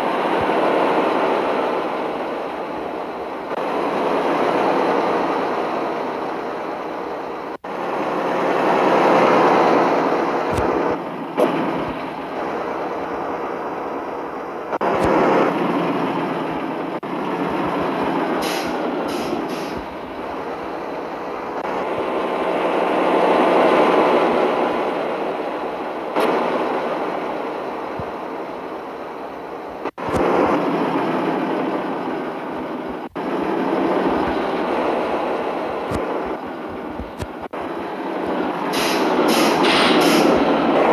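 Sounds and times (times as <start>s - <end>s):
truck driving: 0.0s - 40.9s.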